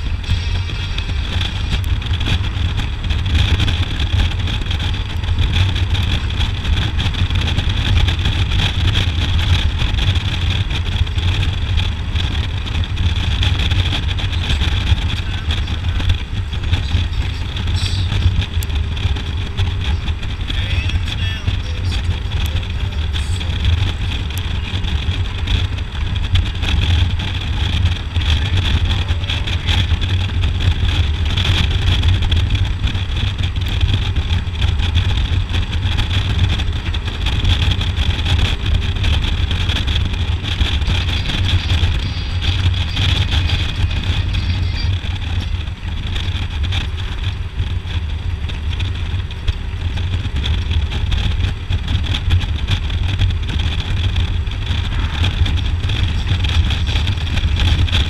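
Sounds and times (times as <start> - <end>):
motorcycle engine running: 0.0 - 58.0
wind rushing past microphone: 0.0 - 58.0.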